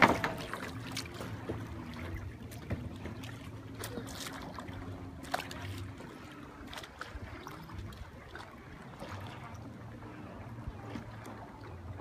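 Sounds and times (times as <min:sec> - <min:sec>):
water splashing around a kayak: 0:00.0 - 0:12.0.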